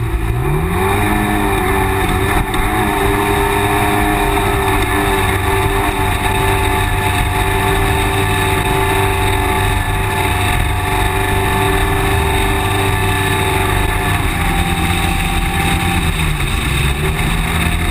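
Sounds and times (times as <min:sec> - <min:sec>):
off-road vehicle engine running: 0:00.0 - 0:17.9.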